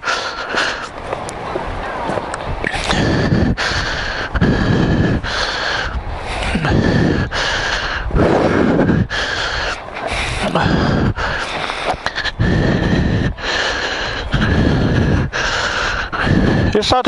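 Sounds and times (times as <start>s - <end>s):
person panting heavily: 0.0s - 1.0s, 2.7s - 17.0s.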